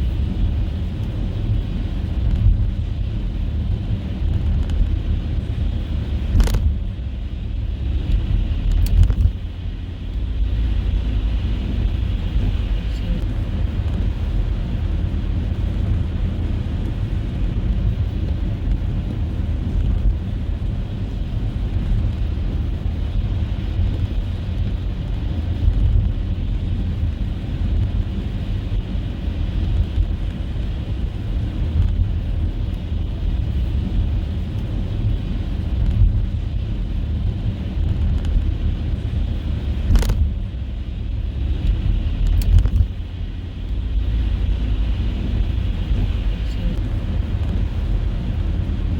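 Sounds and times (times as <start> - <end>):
car tyres and engine rumble: 0.0 - 48.9.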